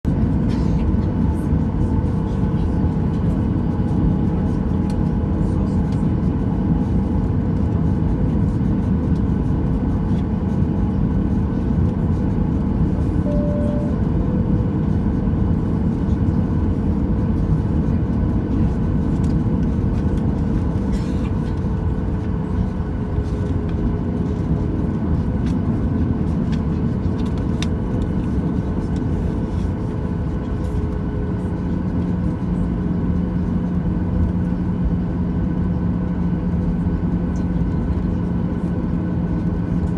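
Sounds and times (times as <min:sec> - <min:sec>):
aircraft cabin rumble: 0:00.1 - 0:39.9
jet engine whine: 0:00.1 - 0:39.9.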